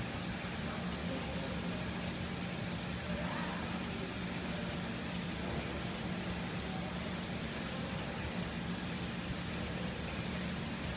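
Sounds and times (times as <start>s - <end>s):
low mechanical hum: 0.0s - 10.9s.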